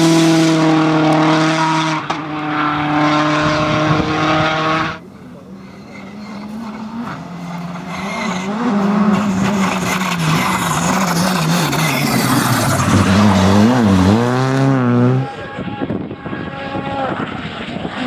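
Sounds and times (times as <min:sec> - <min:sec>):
rally car engine at full pace: 0:00.0 - 0:18.0.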